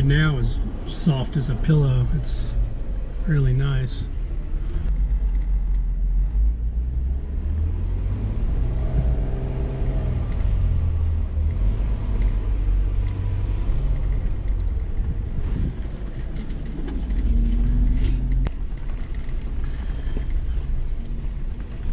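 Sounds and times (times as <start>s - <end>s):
vehicle engine rumbling: 0.0s - 21.9s.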